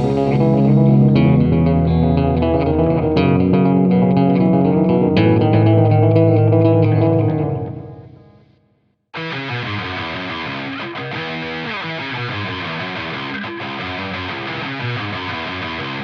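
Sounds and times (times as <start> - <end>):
rock music with electric guitar: 0.0 - 8.4, 9.2 - 16.0.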